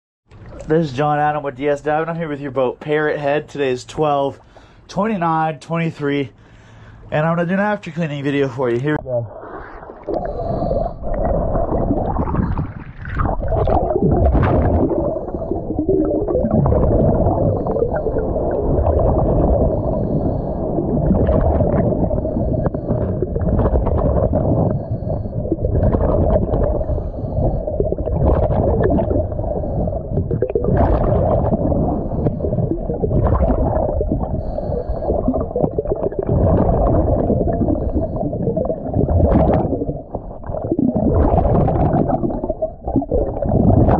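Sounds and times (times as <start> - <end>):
exhaled bubbles bubbling: 0.3 - 0.9, 8.9 - 43.9
muffled underwater rumble: 6.3 - 43.9.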